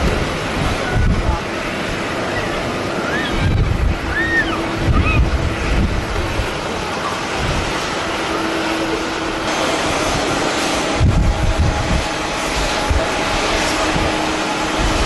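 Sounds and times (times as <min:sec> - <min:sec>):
jet airliners noise: 0:00.0 - 0:15.0
wind buffeting microphone: 0:00.0 - 0:15.0.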